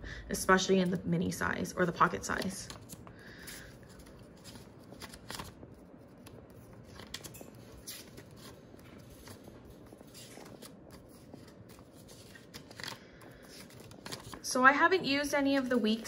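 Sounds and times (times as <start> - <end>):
paper pages turning: 1.9 - 16.0.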